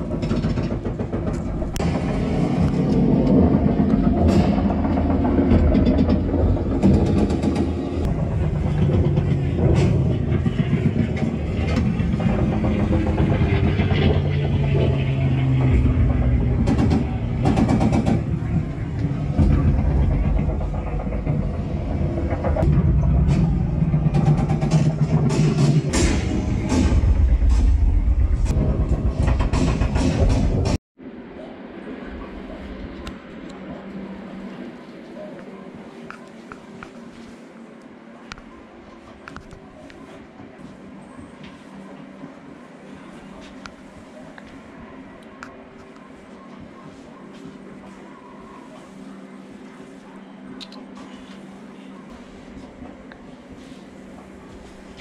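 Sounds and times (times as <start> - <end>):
engine-like rumble: 0.0 - 55.0.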